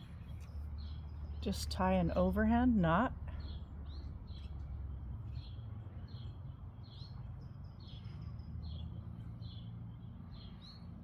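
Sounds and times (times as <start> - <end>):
bird chirping: 0.0 - 1.9, 3.4 - 11.0.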